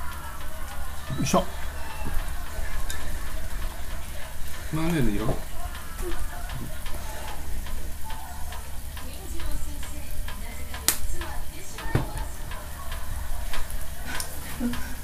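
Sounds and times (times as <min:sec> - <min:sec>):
food sizzling on a hot plate: 0:00.0 - 0:15.0.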